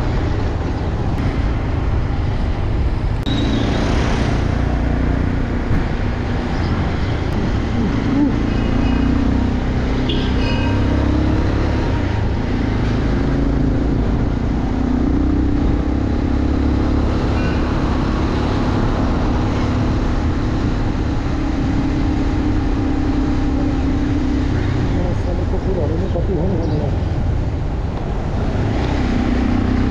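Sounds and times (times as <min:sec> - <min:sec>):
wind and road noise: 0:00.0 - 0:29.9.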